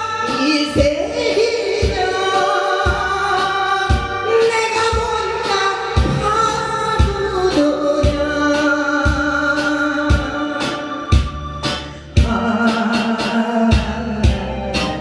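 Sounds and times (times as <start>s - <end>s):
musical accompaniment: 0.0s - 15.0s
person singing slow song: 0.0s - 15.0s
drum beat: 1.8s - 15.0s.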